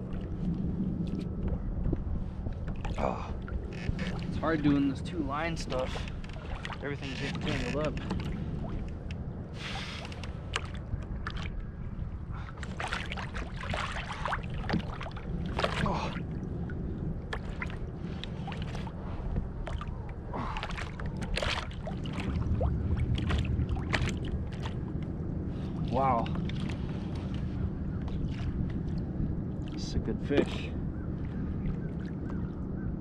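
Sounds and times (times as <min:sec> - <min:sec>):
water sloshing against a hull: 0:00.0 - 0:33.0
wind rumble on microphone: 0:00.0 - 0:33.0.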